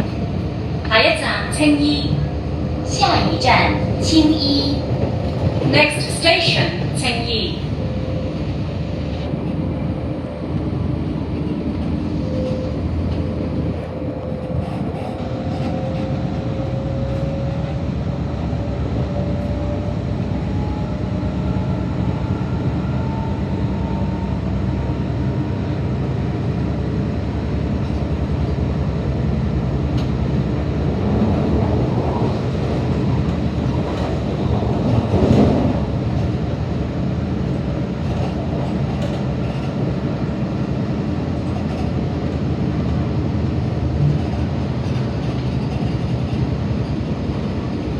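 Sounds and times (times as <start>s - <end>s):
train wheels rumbling on rail: 0.0s - 47.9s.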